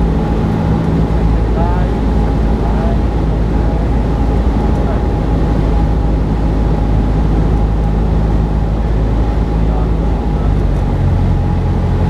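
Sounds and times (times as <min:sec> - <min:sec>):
plane engine droning in cabin: 0:00.0 - 0:12.0.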